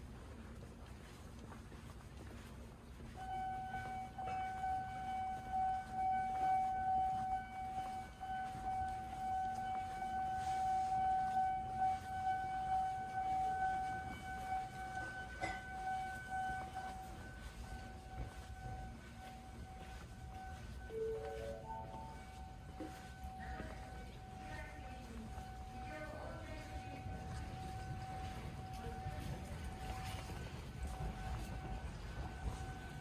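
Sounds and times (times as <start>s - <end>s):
high electronic alarm tone: 3.2s - 33.0s.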